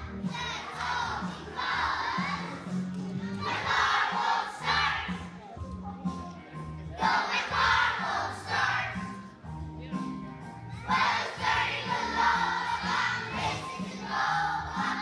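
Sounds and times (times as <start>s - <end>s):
children singing and shouting: 0.0s - 9.4s, 10.7s - 15.0s.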